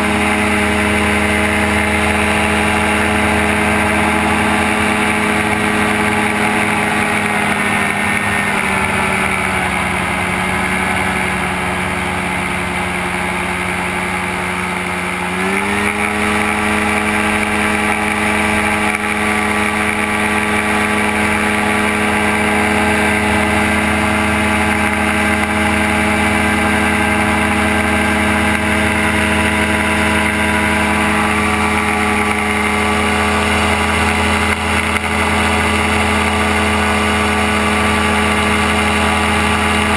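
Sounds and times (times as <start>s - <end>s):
gyrocopter engine and propeller: 0.0s - 39.9s.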